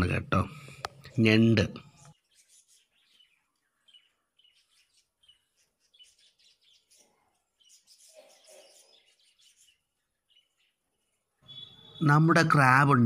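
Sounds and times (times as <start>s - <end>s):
faint bird chirps: 0.6s - 12.6s.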